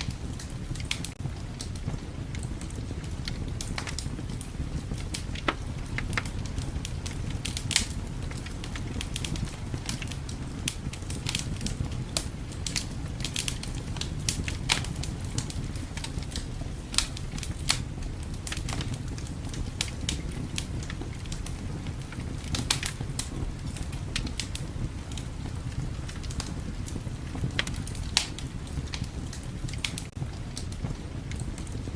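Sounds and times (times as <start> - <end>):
fireplace fire crackling: 0.0 - 31.9
low rumble of wind: 0.0 - 31.9.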